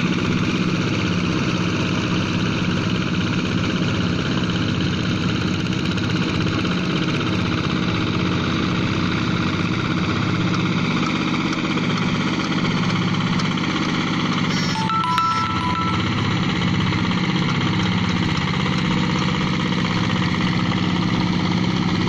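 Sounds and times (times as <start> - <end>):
diesel engines running under load: 0.0 - 22.0.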